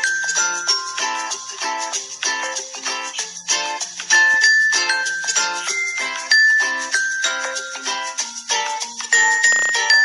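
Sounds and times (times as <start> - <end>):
light tune of bright notes: 0.0 - 10.0.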